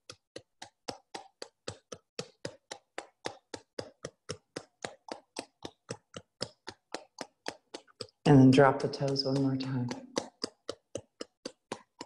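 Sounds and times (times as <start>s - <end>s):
therapy ball rubbing against skin: 0.0s - 12.0s.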